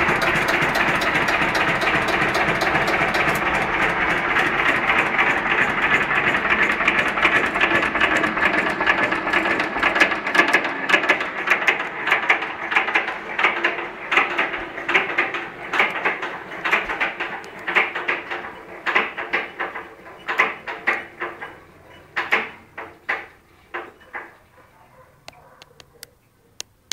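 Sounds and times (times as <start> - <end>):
diesel engine running down: 0.0 - 24.1.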